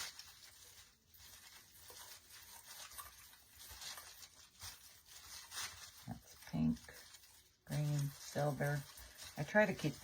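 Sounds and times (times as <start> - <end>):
faint rustling of artificial greenery: 0.0 - 10.0.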